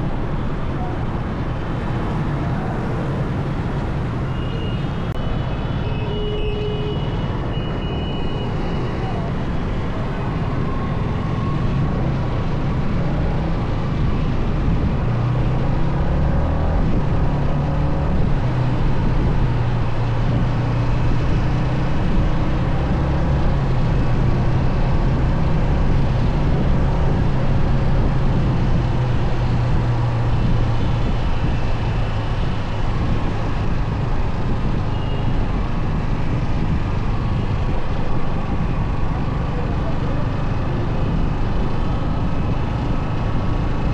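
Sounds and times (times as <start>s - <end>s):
road noise: 0.0s - 43.9s.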